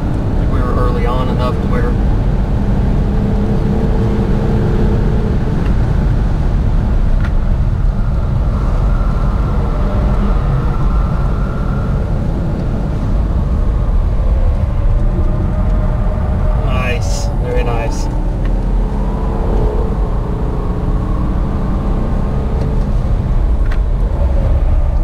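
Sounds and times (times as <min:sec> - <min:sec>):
engine and road noise rumble: 0:00.0 - 0:25.0.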